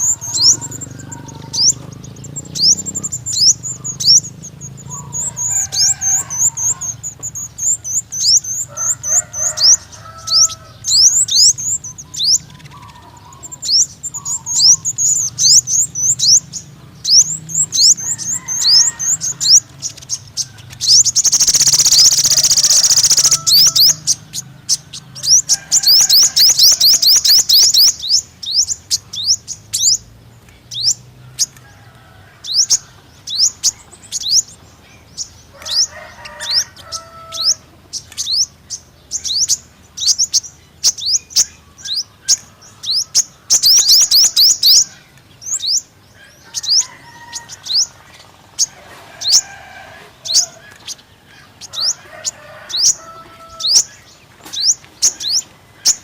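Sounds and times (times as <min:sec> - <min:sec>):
bird chirping and trilling: 0:00.0 - 0:30.1, 0:32.4 - 0:49.6, 0:50.2 - 0:56.0.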